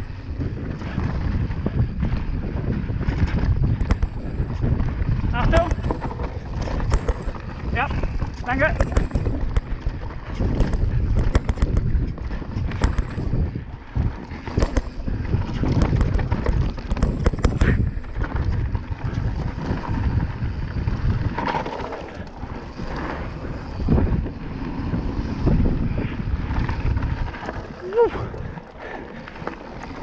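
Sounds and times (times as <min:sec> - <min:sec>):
bike clacking and rattling: 0:00.0 - 0:30.0
wind buffeting microphone: 0:00.0 - 0:30.0
tyre rumble: 0:00.1 - 0:30.0.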